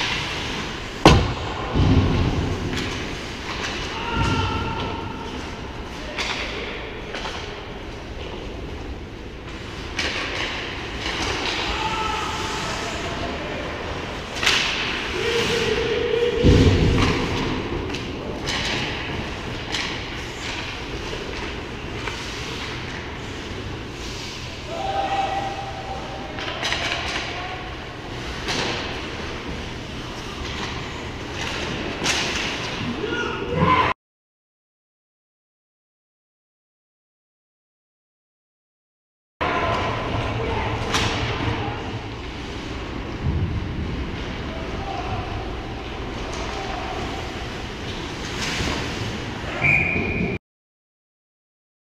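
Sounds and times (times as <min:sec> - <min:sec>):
low rumble of rink: 0:00.0 - 0:33.9, 0:39.4 - 0:50.4.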